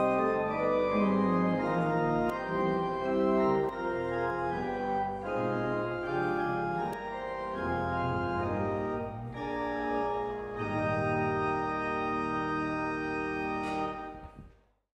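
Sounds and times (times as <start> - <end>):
church organ chords: 0.0 - 14.5.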